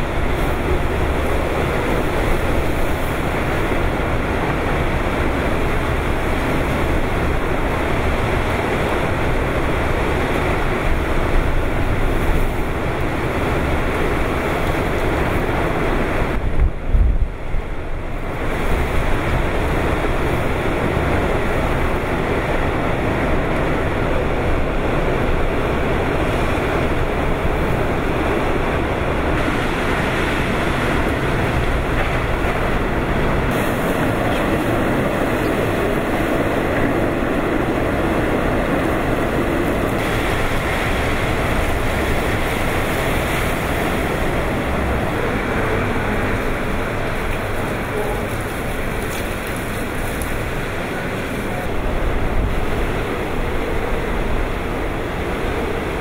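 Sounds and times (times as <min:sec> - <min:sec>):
strong wind and driving rain: 0:00.0 - 0:56.0
wind buffeting microphone: 0:00.0 - 0:56.0.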